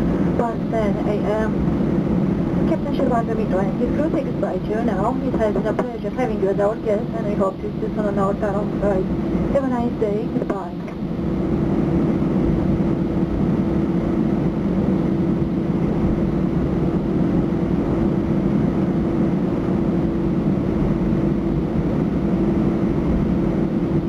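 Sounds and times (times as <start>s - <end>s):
jet engines idling in cabin: 0.0s - 24.0s.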